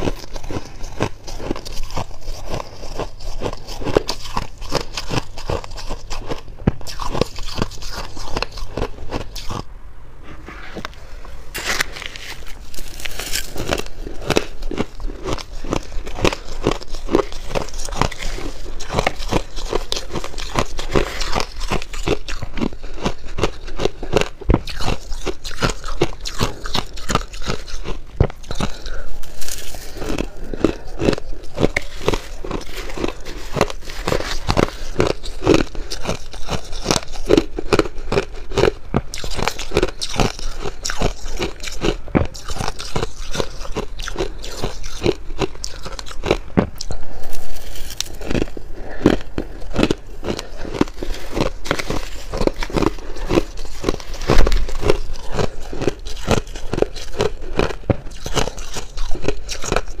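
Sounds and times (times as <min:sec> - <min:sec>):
ice being chewed: 0:00.0 - 0:09.7, 0:10.6 - 1:00.0.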